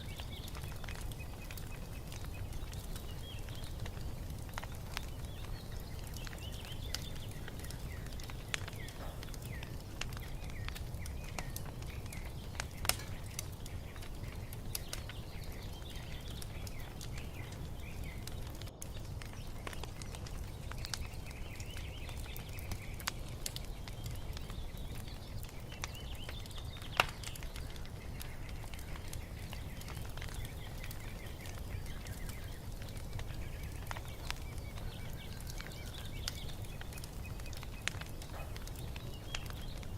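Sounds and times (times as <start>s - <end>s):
songbirds chirping: 0.0s - 39.9s
wood fire crackling: 0.0s - 39.9s.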